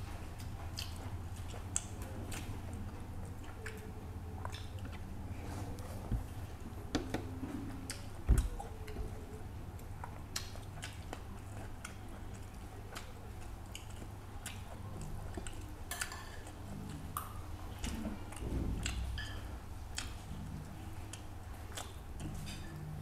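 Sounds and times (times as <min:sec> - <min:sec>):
chewing and lip smacking: 0:00.0 - 0:23.0.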